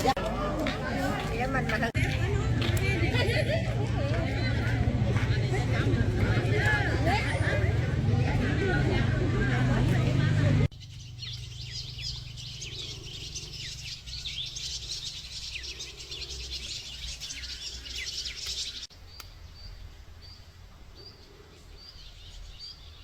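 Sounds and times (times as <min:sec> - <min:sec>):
small birds chirping: 0:01.1 - 0:23.0.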